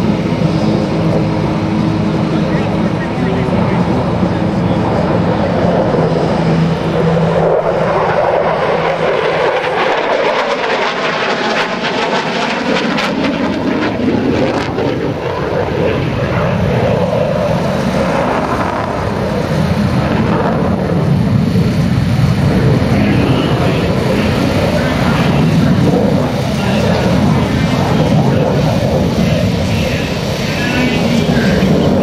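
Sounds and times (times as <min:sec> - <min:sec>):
jet engine roaring overhead: 0:00.0 - 0:32.0.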